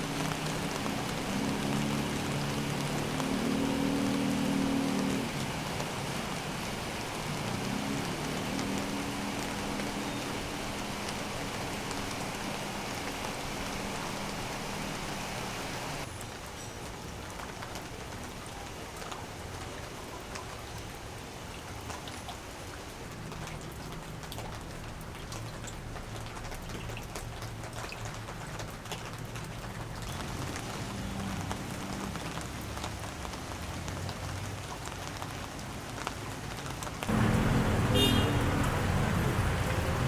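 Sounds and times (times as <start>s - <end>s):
rain patter and drips: 0.0s - 40.0s
steady rain falling: 0.0s - 40.0s.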